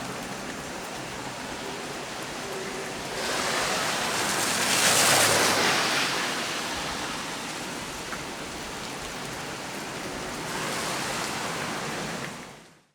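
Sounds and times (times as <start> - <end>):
heavy rain on a tree: 0.0 - 12.9.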